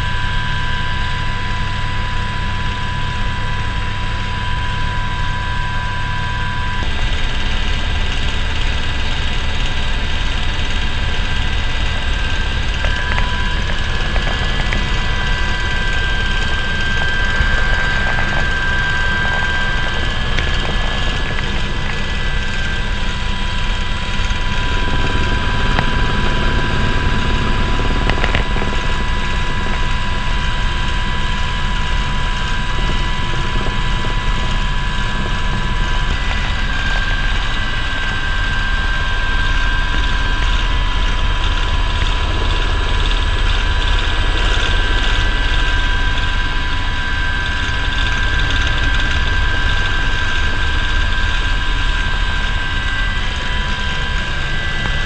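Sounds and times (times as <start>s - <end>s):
helicopter turbine whine: 0.0s - 55.0s
rotor rumble: 6.8s - 55.0s.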